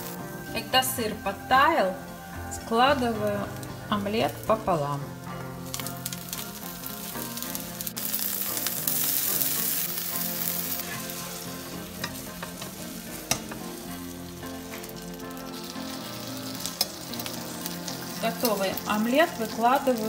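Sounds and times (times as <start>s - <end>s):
omelette sizzling in pan: 0.0s - 20.0s.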